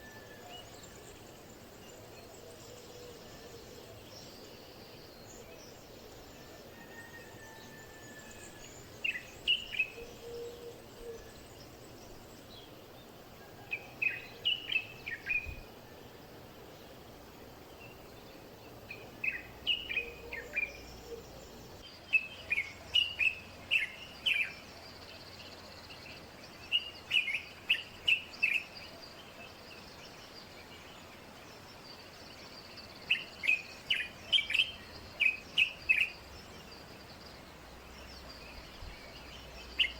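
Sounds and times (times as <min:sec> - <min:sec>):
bird chirping: 0:00.0 - 0:39.9
faint background hiss: 0:00.0 - 0:39.9.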